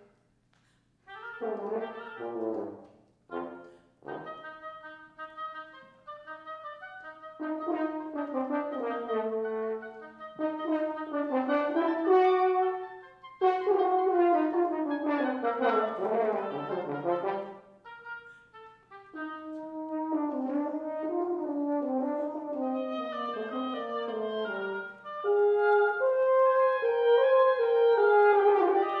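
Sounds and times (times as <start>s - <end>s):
french horn solo: 1.1s - 29.0s.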